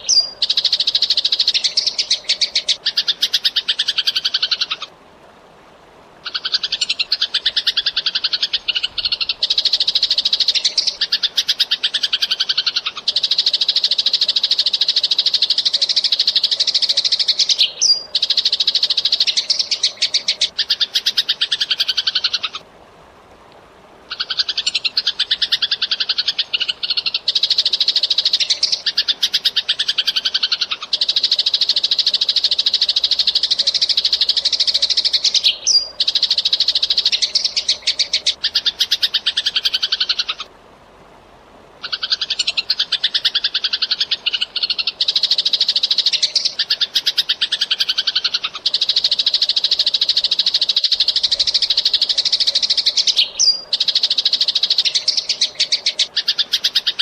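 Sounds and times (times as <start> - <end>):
sparrow chattering: 0.0 - 4.9, 6.3 - 22.6, 24.1 - 40.5, 41.8 - 57.0.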